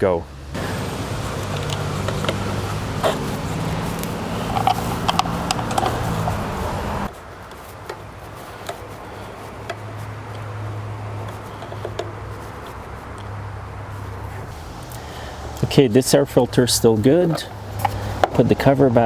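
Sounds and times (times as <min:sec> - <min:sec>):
lawnmower engine running: 0:00.3 - 0:07.1, 0:08.1 - 0:19.0.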